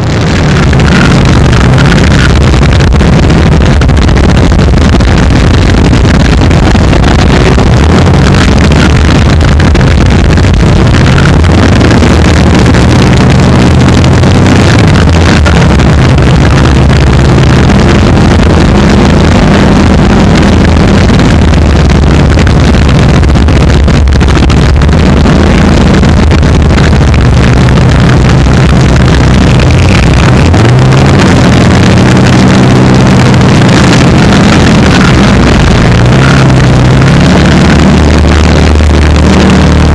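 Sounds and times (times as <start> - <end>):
drag car engines running loud: 0.0 - 39.9.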